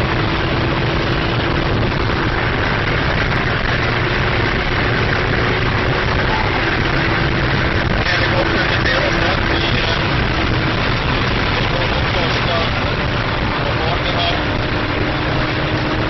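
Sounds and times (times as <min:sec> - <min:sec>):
car interior road and wind noise: 0:00.0 - 0:16.0.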